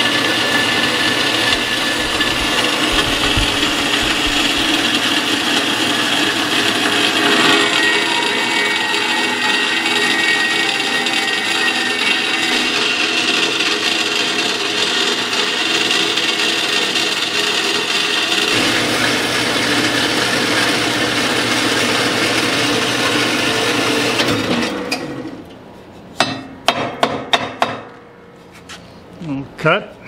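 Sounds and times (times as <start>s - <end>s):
bandsaw cutting steel: 0.0s - 25.3s.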